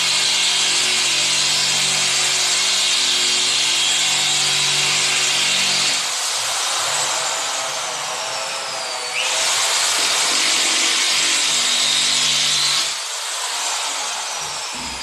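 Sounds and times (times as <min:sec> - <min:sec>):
electric drill drilling: 0:00.0 - 0:15.0.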